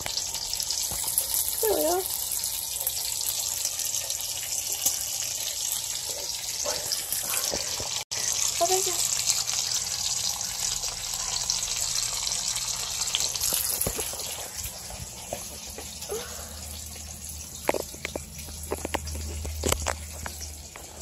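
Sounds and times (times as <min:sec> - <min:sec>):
bacon sizzling in a frying pan: 0:00.0 - 0:21.0.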